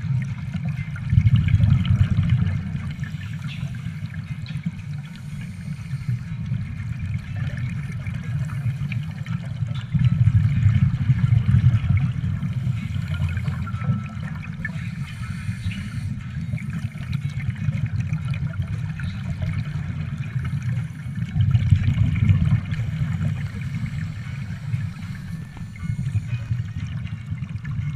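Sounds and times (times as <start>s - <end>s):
underwater bubbles gurgling: 0.0s - 27.9s.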